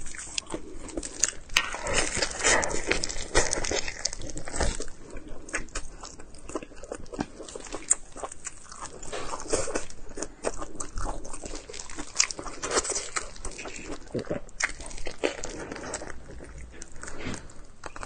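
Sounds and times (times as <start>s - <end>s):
wet chewing and biting: 0.0s - 18.0s.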